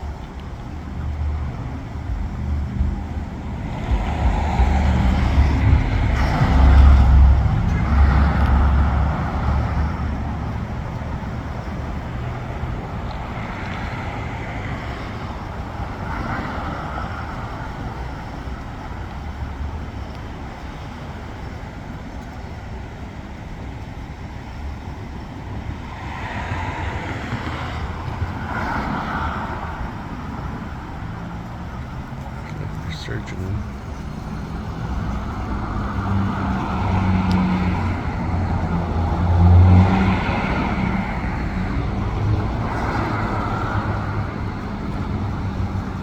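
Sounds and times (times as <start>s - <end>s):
traffic hum: 0.0s - 46.0s
vehicle rumble: 0.0s - 46.0s.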